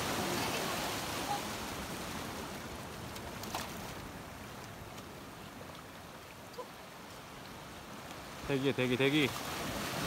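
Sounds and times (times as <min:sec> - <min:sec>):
waves washing over rocks: 0:00.0 - 0:05.6, 0:07.3 - 0:10.0.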